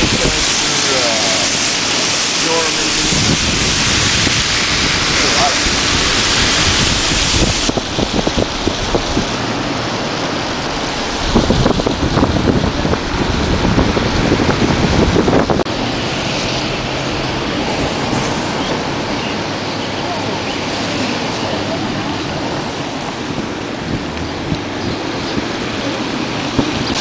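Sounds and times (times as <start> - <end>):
truck road noise: 0.0 - 27.0
wind buffeting microphone: 0.0 - 27.0.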